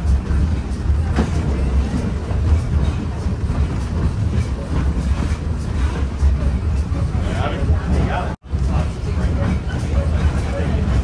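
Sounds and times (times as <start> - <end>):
train carriage rumbling on track: 0.0 - 11.0.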